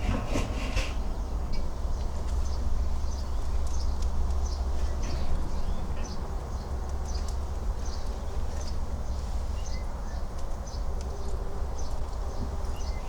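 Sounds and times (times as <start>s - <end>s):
steady low rumble: 0.0s - 13.0s
bird chirping: 1.2s - 13.0s.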